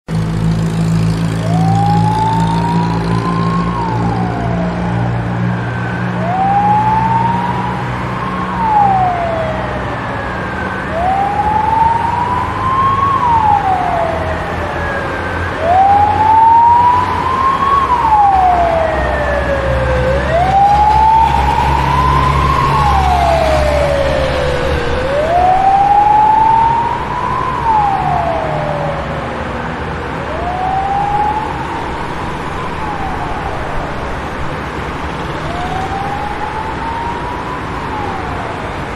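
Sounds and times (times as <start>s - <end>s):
fire truck siren wailing: 0.1s - 38.9s.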